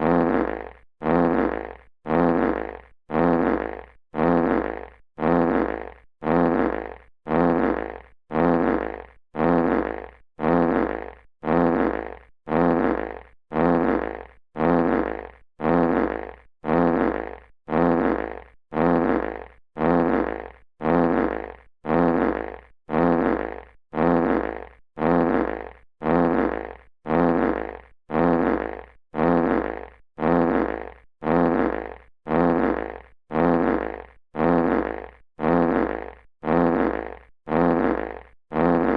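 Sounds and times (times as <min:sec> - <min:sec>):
buzzy fart sound effect: 0:00.0 - 0:38.9.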